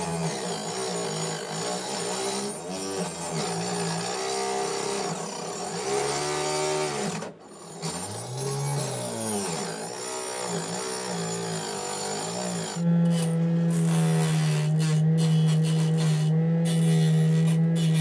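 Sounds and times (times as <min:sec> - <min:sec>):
table saw cutting wood: 0:00.0 - 0:18.0.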